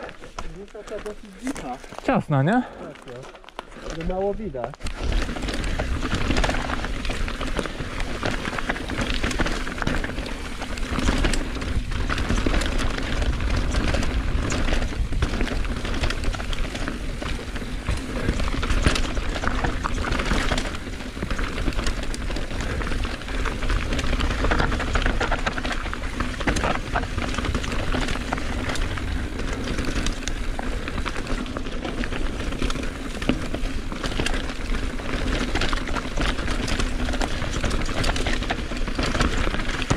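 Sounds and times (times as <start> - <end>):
bike tyres on trail: 0.0 - 39.9
bike knocks and rattles: 3.1 - 39.9
wind rumbling on microphone: 4.8 - 39.9.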